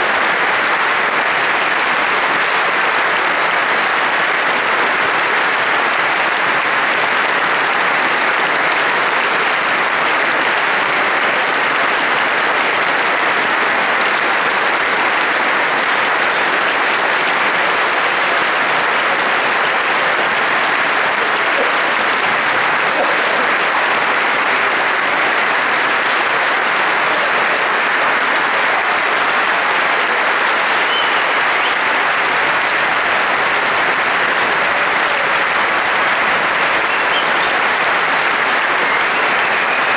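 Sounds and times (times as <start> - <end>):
audience applauding in a hall: 0.0 - 39.9.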